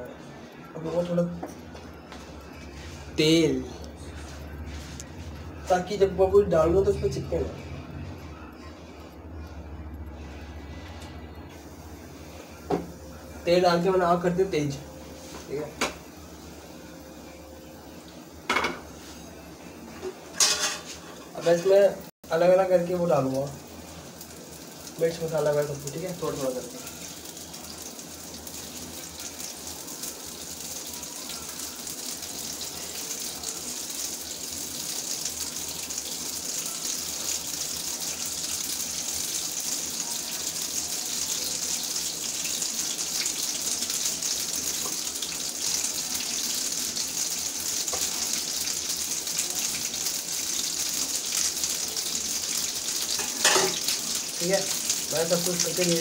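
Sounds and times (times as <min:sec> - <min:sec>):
hot oil sizzling in a frying pan: 0:00.0 - 0:09.1, 0:11.5 - 0:56.0.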